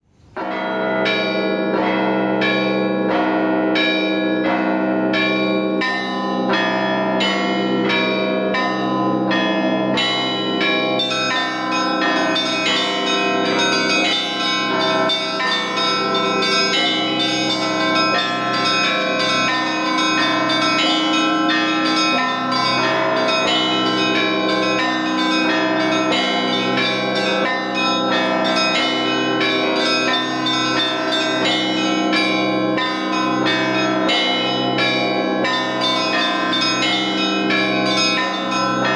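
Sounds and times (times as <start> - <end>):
big low bells ringing: 0.3 - 38.9
church bells pealing: 0.3 - 38.9
small high bells: 0.4 - 38.9.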